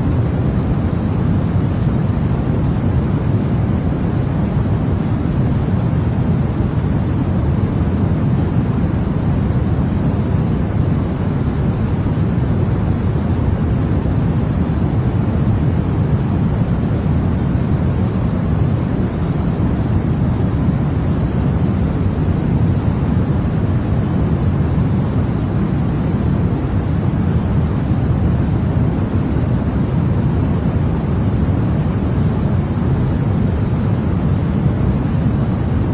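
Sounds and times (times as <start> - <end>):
deep white noise hiss: 0.0 - 35.9.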